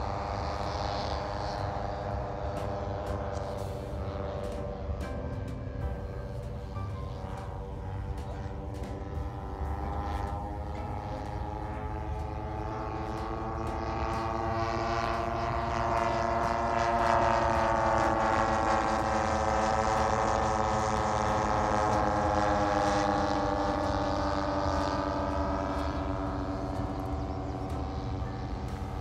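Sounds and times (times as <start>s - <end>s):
propeller plane droning overhead: 0.0s - 29.0s.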